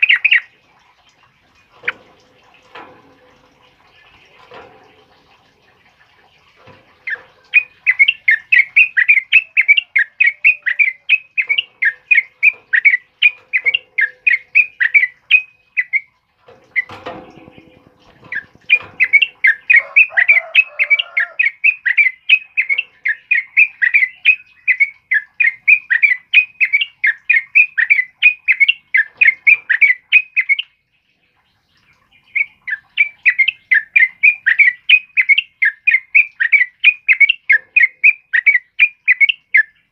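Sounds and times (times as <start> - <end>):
bird chattering song: 0.0 - 0.5, 7.0 - 39.9.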